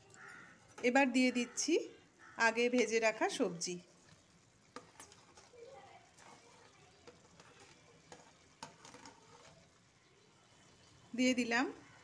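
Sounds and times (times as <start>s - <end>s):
vegetables sizzling in a hot pan: 0.0s - 12.0s.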